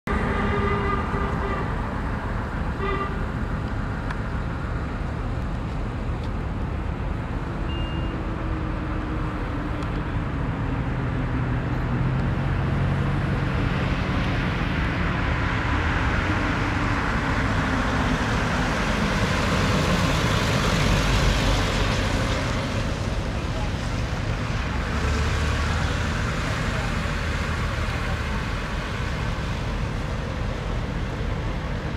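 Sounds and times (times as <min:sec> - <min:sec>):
road traffic: 0:00.0 - 0:31.9.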